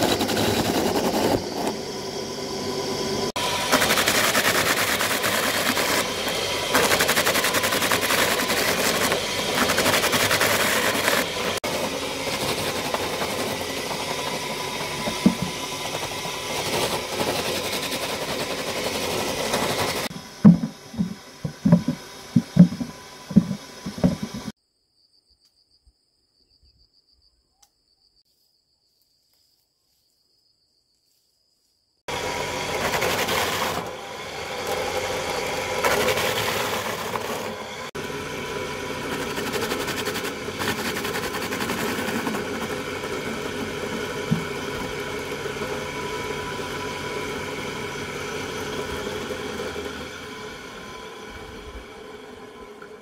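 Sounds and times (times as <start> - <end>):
slicing machine running: 0.0 - 24.6, 32.1 - 53.0.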